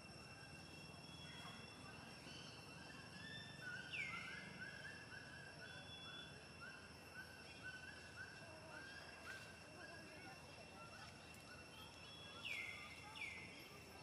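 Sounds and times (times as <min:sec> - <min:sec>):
faint high-pitched tones: 0:00.0 - 0:14.0.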